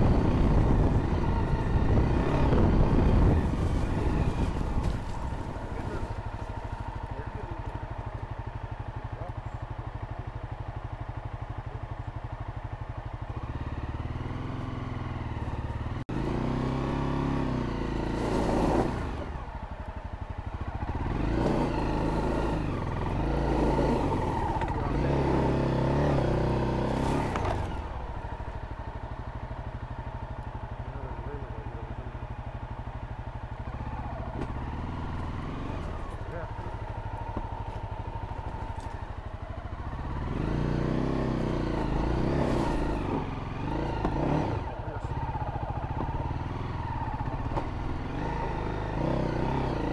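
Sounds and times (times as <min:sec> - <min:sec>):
motorcycle engine revving and idling: 0:00.0 - 0:49.9.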